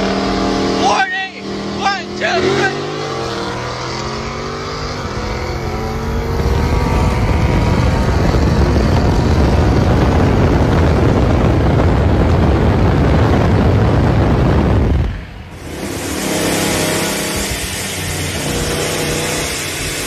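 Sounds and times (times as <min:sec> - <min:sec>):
car engines roaring: 0:00.0 - 0:20.0
rushing air: 0:00.0 - 0:20.0.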